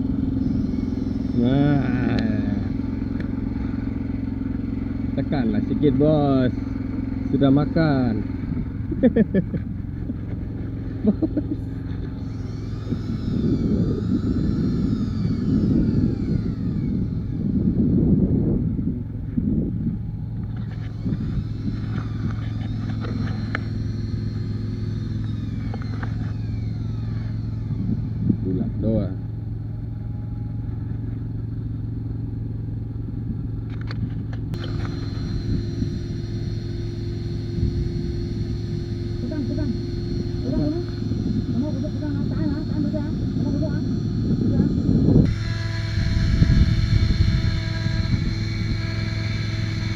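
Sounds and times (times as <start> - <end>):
rising and falling whine: 0.0 - 31.2, 33.0 - 49.9
backhoe diesel engine running: 0.0 - 49.9.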